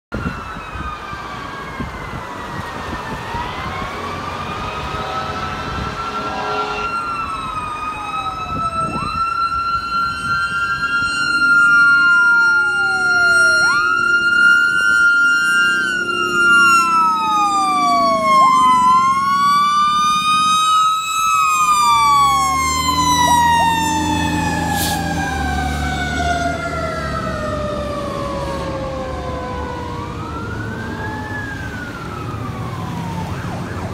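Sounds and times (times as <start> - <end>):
mechanical siren screaming: 0.1 - 33.9
second siren sweeping up and down: 0.1 - 33.9.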